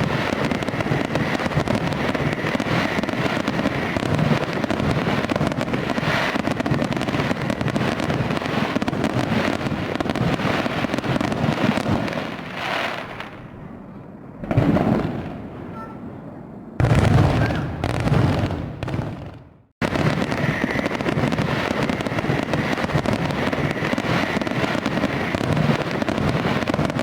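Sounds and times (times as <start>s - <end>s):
fireworks crackling and popping: 0.0s - 13.6s, 14.4s - 15.5s, 16.8s - 27.0s.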